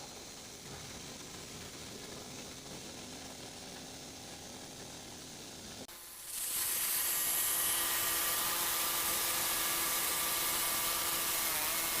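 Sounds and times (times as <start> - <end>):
sawmill running: 0.0 - 12.0.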